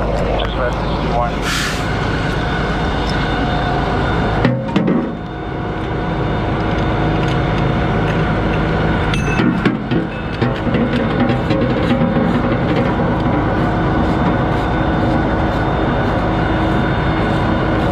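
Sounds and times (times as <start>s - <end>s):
fire engine pump running: 0.0s - 17.9s.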